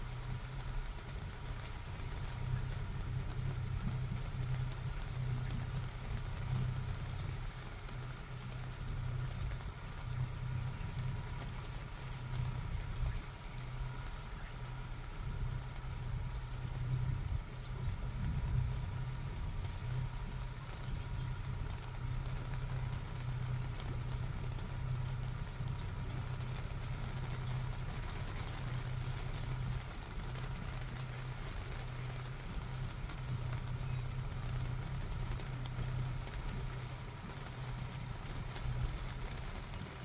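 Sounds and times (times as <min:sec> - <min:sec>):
motor idling: 0:00.0 - 0:40.0
rain pattering: 0:00.0 - 0:40.0.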